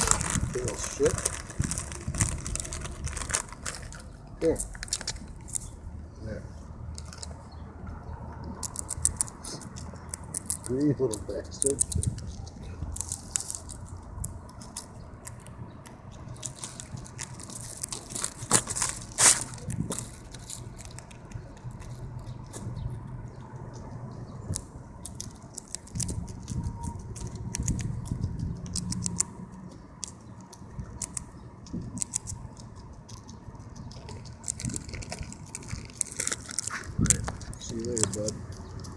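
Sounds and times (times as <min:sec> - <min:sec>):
squirrel gnawing and chewing: 0:00.0 - 0:38.9.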